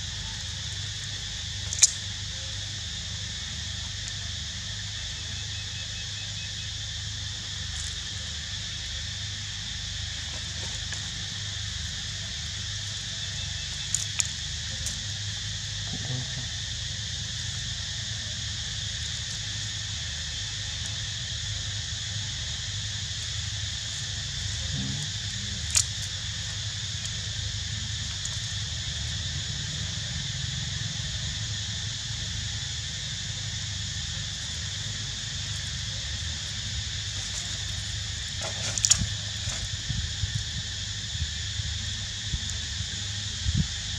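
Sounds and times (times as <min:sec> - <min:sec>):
high-pitched insect drone: 0:00.0 - 0:43.9.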